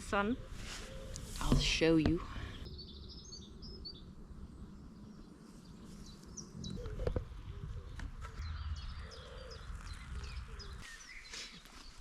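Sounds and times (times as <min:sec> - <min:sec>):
songbirds chirping: 0:00.0 - 0:12.0
wind rumble: 0:01.2 - 0:11.2.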